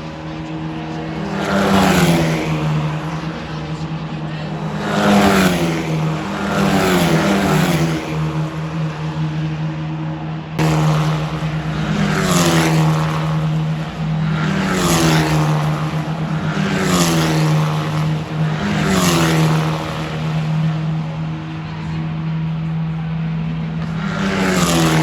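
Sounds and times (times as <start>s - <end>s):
racing cars passing at high revs: 0.0s - 25.0s.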